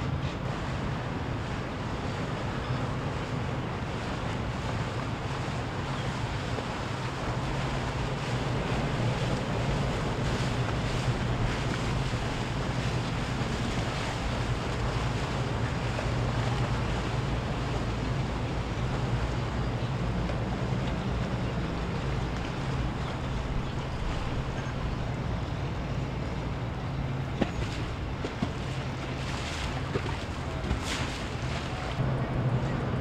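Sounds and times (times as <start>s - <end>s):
motorboat engines droning: 0.0s - 33.0s
waves washing: 0.0s - 33.0s
wind buffeting microphone: 0.0s - 33.0s.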